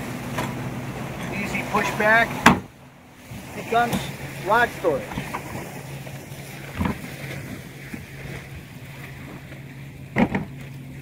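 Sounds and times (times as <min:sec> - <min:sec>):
light wind: 0:00.0 - 0:11.0
water noise: 0:00.0 - 0:11.0.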